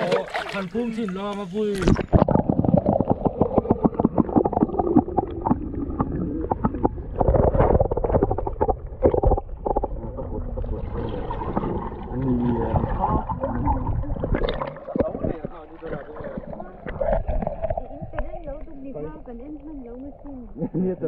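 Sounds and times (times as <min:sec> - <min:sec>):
water gurgling underwater: 0:01.7 - 0:21.0.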